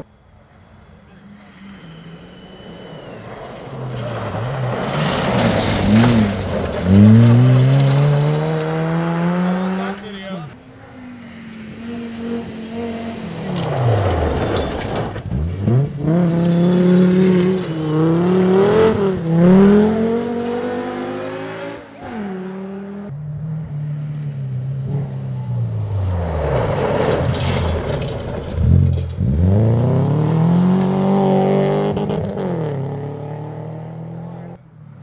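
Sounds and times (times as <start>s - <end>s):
rally car engine at full throttle: 0.0s - 35.0s.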